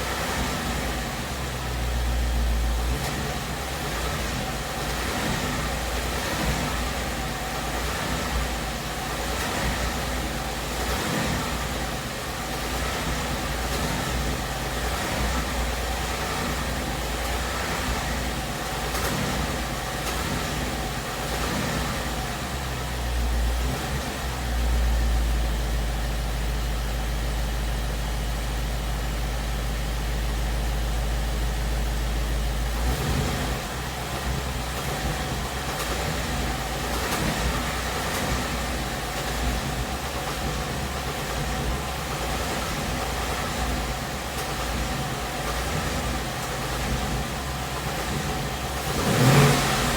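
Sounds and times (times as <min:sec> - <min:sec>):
car engine idling with knocking tick: 0:00.0 - 0:49.9.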